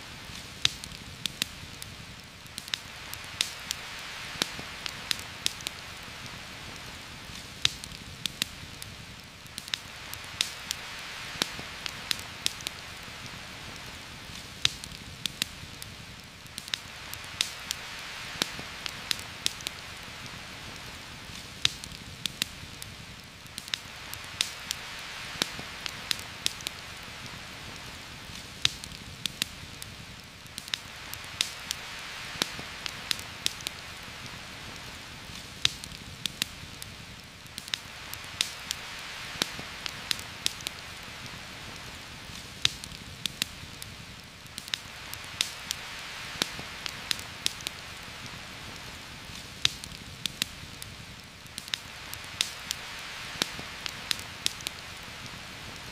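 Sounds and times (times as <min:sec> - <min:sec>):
heavy rain hissing: 0:00.0 - 0:55.9
sharp crackles and pops: 0:00.0 - 0:55.9.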